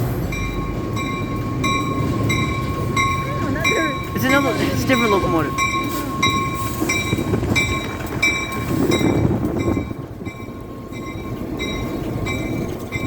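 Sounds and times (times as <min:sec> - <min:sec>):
locomotive bell ringing: 0:00.0 - 0:13.0
train rumbling past: 0:00.0 - 0:13.0.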